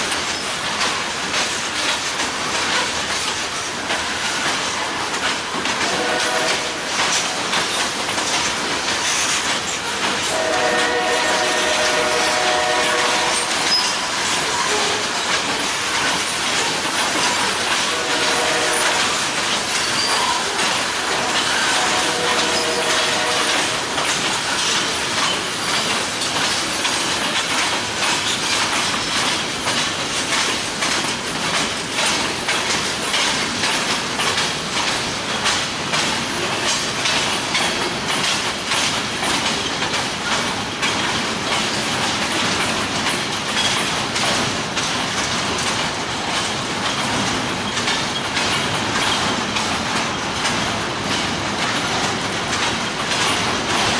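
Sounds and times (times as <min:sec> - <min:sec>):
rolling rail noise: 0:00.0 - 0:53.9
train wheels clicking over rail joints: 0:00.0 - 0:53.9.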